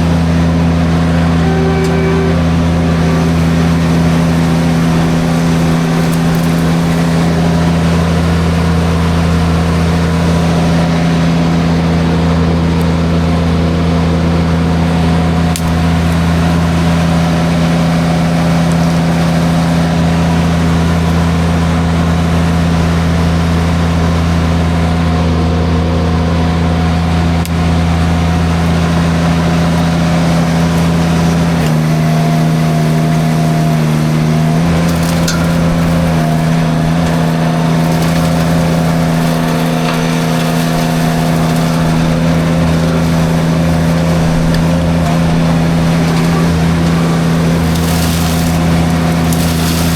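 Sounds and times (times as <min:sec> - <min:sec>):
drum mulcher shredding brush: 0:00.0 - 0:49.9
skid steer engine running: 0:00.0 - 0:49.9.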